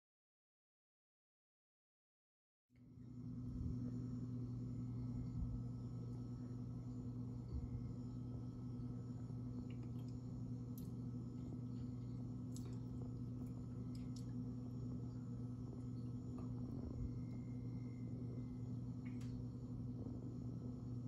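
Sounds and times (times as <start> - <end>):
low steady hum: 2.8 - 21.0.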